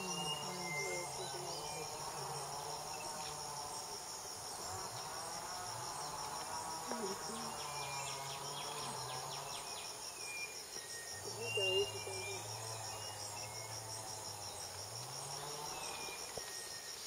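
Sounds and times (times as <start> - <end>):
insect chorus high buzz: 0.0 - 17.0.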